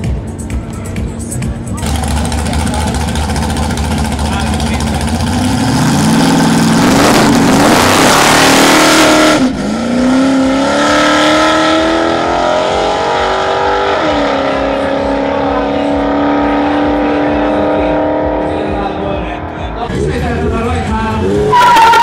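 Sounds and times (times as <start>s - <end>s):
drag racing car engine accelerating: 1.7s - 22.0s.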